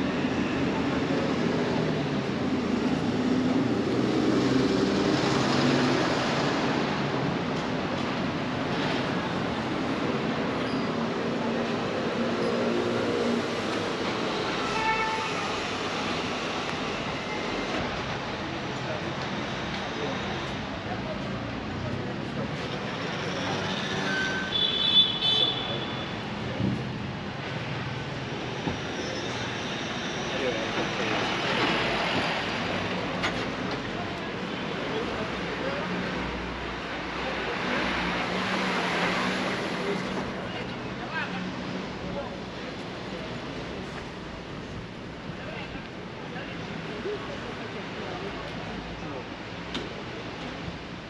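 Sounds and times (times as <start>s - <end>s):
traffic engines passing: 0.0s - 51.0s.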